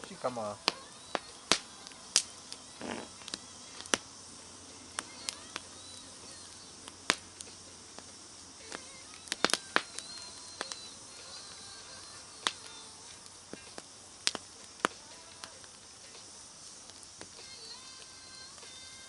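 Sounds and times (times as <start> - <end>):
campfire crackling and popping: 0.0 - 19.0
faint steady hiss: 0.0 - 19.0.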